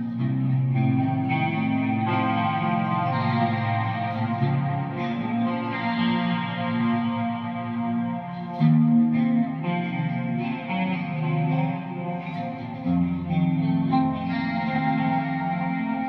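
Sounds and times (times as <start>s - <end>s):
clean electric guitar playing: 0.0s - 16.0s.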